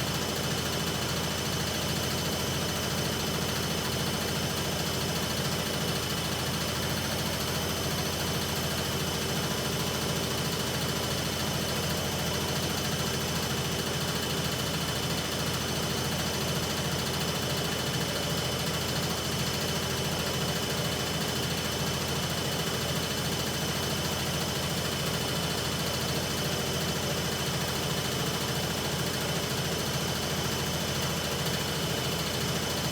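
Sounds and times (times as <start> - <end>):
washing machine spinning with whine: 0.0 - 32.9.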